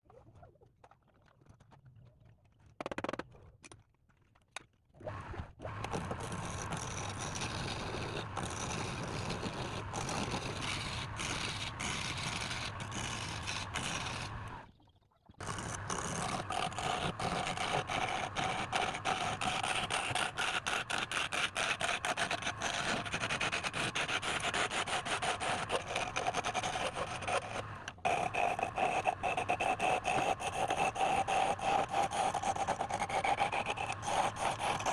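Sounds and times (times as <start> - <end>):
tool scraping wood: 5.8 - 14.6, 15.4 - 34.9.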